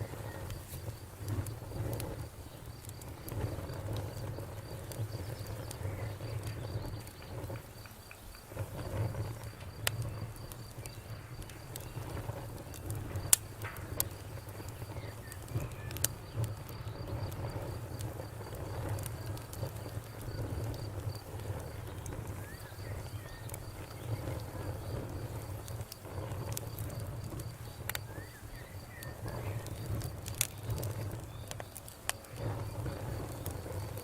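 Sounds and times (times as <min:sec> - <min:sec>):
burning wood crackling and popping: 0:00.0 - 0:34.0
low rumble of flames: 0:00.0 - 0:34.0.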